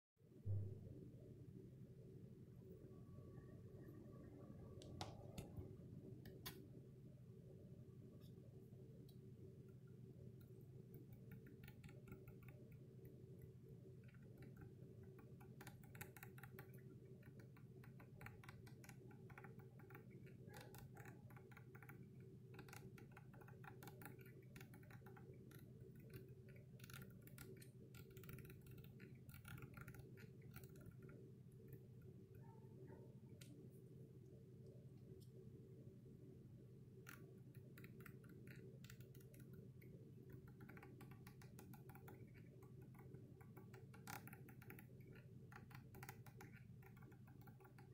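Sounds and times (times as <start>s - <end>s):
steady low hum: 0.2s - 47.9s.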